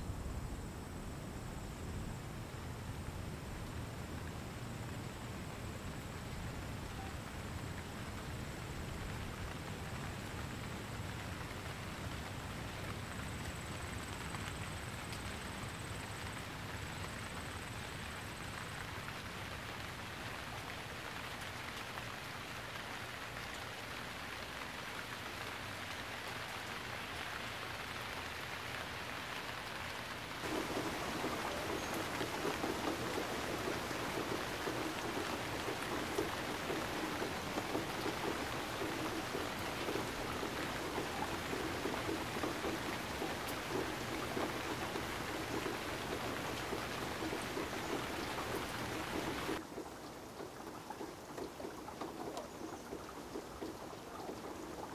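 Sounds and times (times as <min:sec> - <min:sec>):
hiss of running water: 0:00.0 - 0:54.9.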